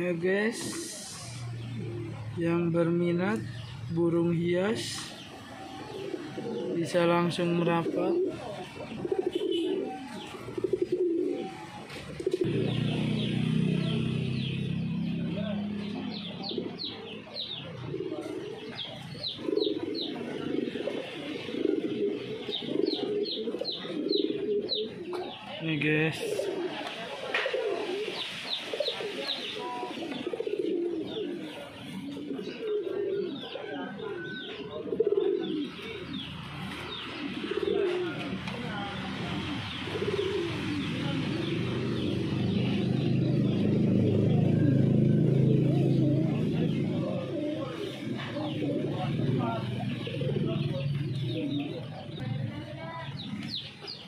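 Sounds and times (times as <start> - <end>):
pigeons cooing: 0.0 - 54.0
small birds chirping: 0.0 - 54.0.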